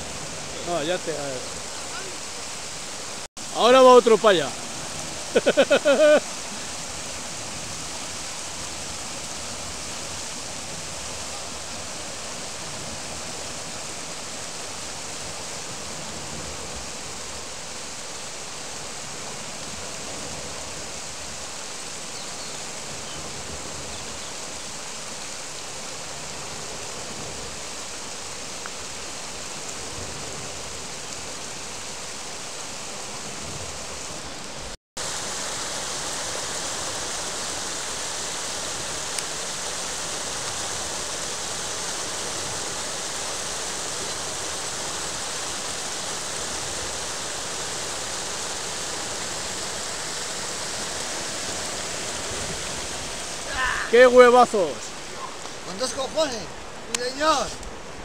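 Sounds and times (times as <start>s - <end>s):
river water rushing over a weir: 0.0s - 58.0s.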